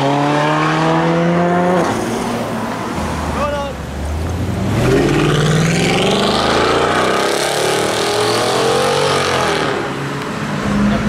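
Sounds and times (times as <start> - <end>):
car accelerating hard: 0.0 - 2.4, 4.3 - 11.0.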